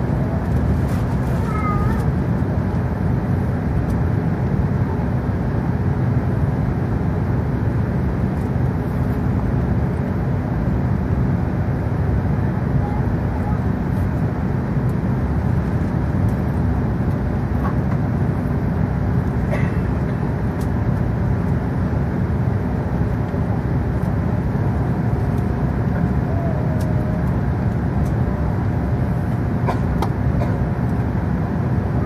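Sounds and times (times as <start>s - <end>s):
aircraft cabin rumble while taxiing: 0.0s - 32.0s.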